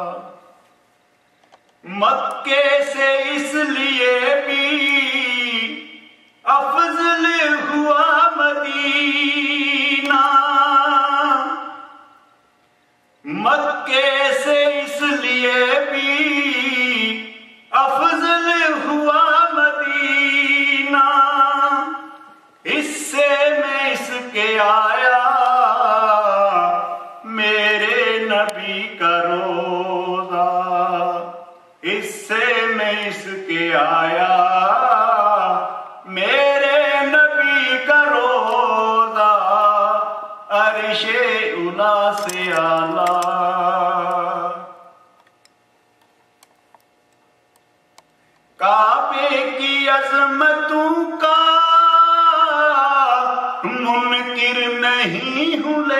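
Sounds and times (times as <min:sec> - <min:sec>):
man singing unaccompanied: 0:01.8 - 0:12.1, 0:13.2 - 0:45.0, 0:48.6 - 0:55.9.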